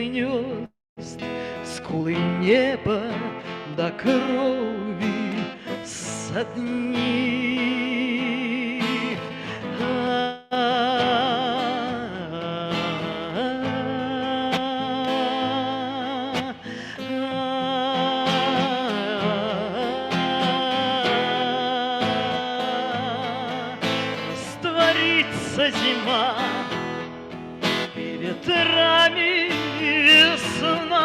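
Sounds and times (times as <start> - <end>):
acoustic guitar strumming: 0.1 - 31.0.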